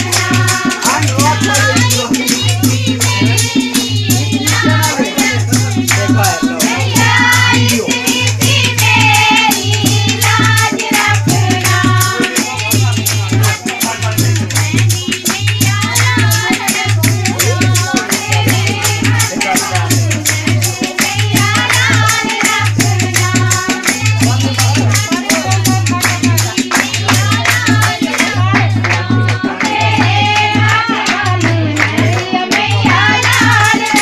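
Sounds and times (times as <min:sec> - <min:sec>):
hand percussion strokes: 0:00.0 - 0:34.0.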